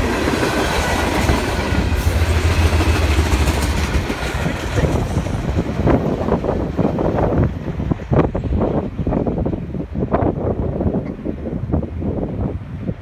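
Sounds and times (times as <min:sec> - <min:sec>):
freight train rumble and wheel clatter: 0:00.0 - 0:13.0.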